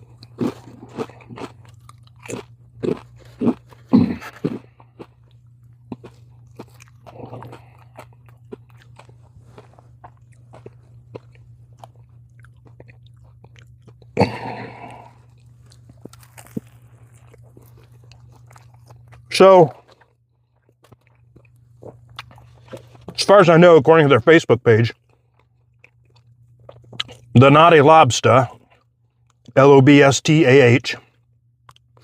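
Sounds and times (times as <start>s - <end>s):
crunching and chewing chips: 0.0s - 30.0s, 30.8s - 32.0s.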